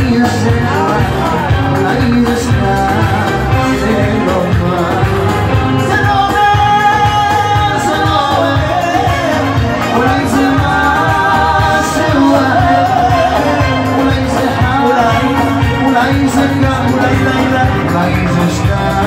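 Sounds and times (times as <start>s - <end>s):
man singing into microphone: 0.0s - 19.0s
pop backing track with bass beat: 0.0s - 19.0s.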